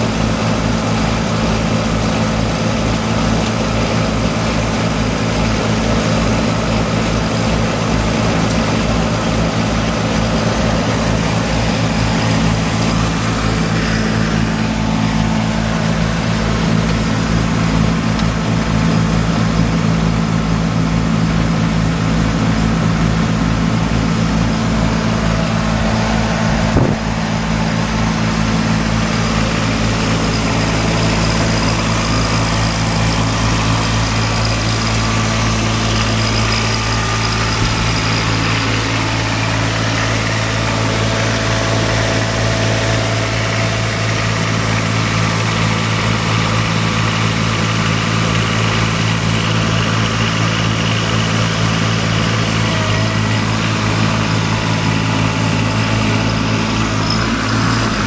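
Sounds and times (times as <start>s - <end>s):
mower engine idling: 0.0s - 58.0s.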